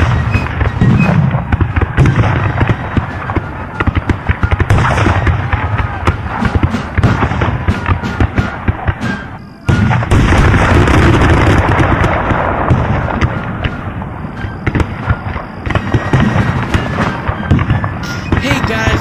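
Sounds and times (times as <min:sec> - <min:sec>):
dense gunfire: 0:00.0 - 0:19.0
explosion booms: 0:00.0 - 0:19.0
music: 0:00.2 - 0:10.1, 0:13.4 - 0:19.0.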